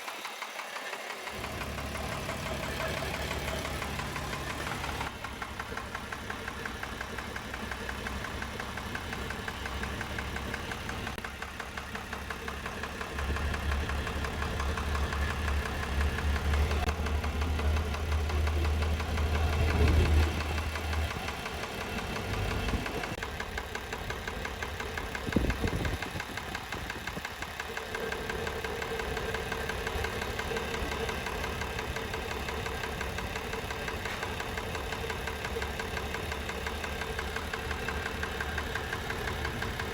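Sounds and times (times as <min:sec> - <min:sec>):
diesel engine idling with a knock: 0:01.3 - 0:39.9.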